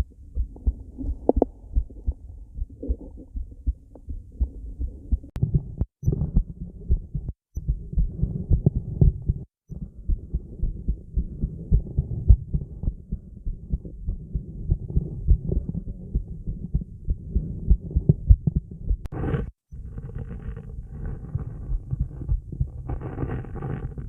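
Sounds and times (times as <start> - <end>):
heartbeat thuds: 0.0 - 19.6, 21.7 - 23.4.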